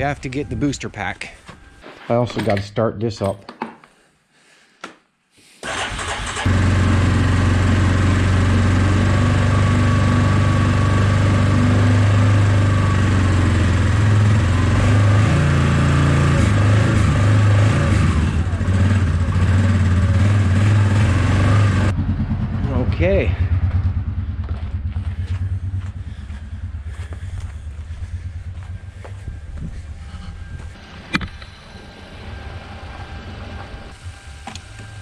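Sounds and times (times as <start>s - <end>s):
engine cranking and idling: 5.6s - 35.0s.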